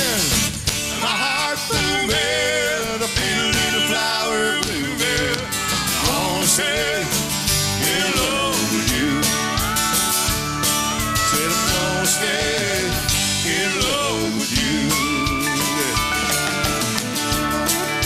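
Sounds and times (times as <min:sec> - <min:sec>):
acoustic guitar: 0:00.0 - 0:18.0
bass guitar: 0:00.0 - 0:18.0
drum kit: 0:00.0 - 0:18.0
electric guitar: 0:00.0 - 0:18.0
wavering lead melody: 0:03.2 - 0:18.0.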